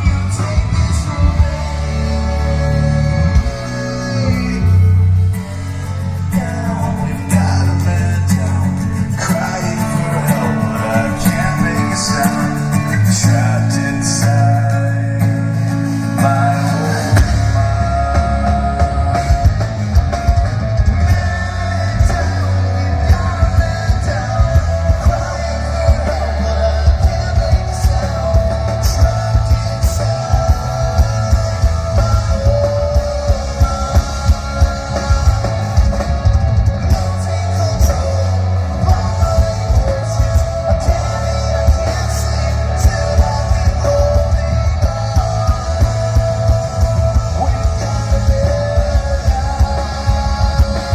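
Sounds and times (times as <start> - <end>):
bass guitar: 0.0 - 50.9
drum kit: 0.0 - 50.9
electric guitar: 0.0 - 50.9
person singing: 0.0 - 50.9.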